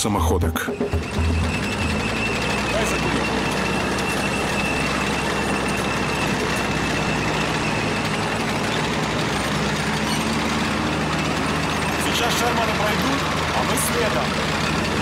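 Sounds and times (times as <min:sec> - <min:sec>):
heavy vehicle engines running: 0:00.0 - 0:15.0.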